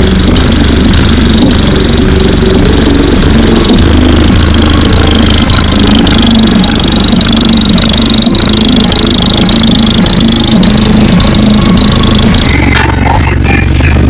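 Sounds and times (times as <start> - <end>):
distorted subwoofer bass drone: 0.0 - 14.0.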